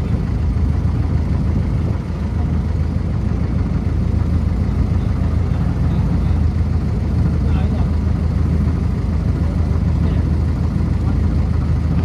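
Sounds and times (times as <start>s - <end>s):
boat engine humming: 0.0s - 12.0s
water rushing past hull: 0.0s - 12.0s.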